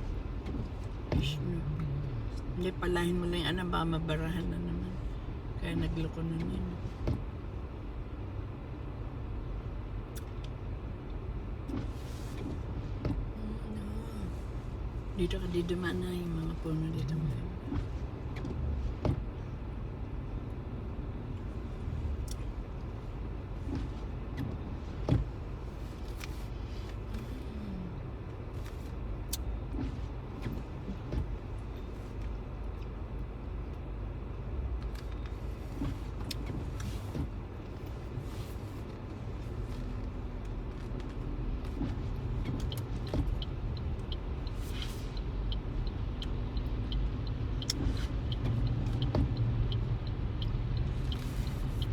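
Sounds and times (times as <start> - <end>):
engine and tyres rumbling: 0.0 - 51.9.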